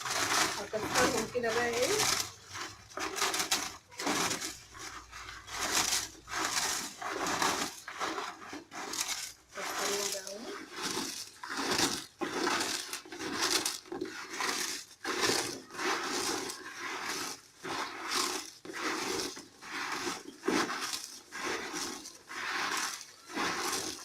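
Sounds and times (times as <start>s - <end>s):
birds pecking and scuffling: 0.0s - 24.0s.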